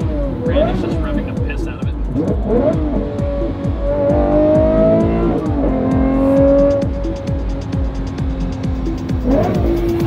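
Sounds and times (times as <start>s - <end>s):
background music with steady beat: 0.0s - 10.0s
car engine accelerating: 0.0s - 10.0s.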